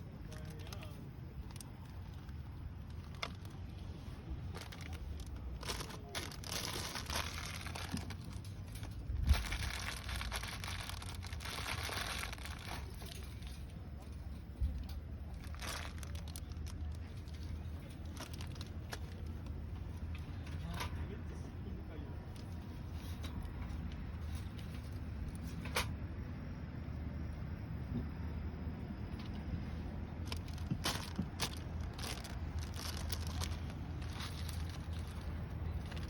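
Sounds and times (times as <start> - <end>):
crinkling and rustling handling: 0.0 - 26.0, 29.0 - 36.0.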